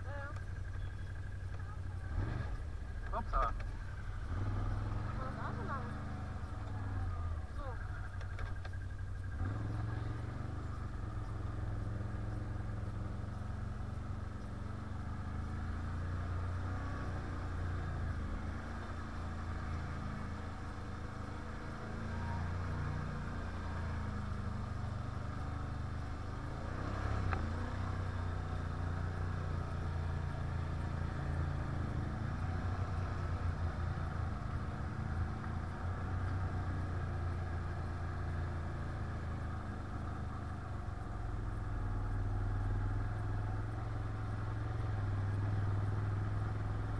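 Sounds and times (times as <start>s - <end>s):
quad bike engine revving: 1.9s - 8.0s, 9.4s - 46.9s.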